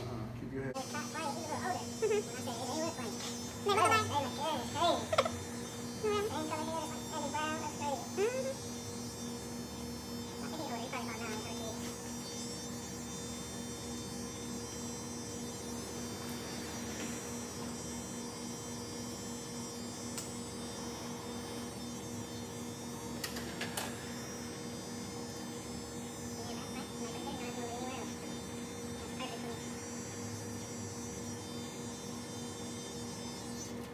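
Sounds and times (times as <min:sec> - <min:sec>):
electric hair trimmer humming: 0:00.0 - 0:33.9.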